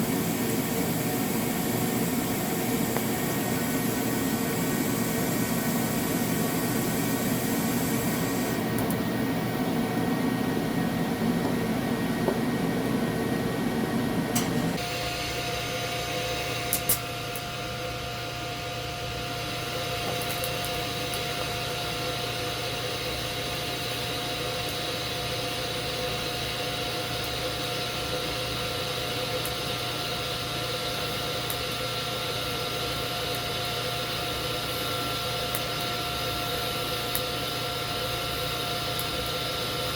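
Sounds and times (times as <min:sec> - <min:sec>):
welding arc buzzing: 0:00.0 - 0:12.2, 0:14.3 - 0:39.9
cooling fan and whine: 0:00.0 - 0:39.9.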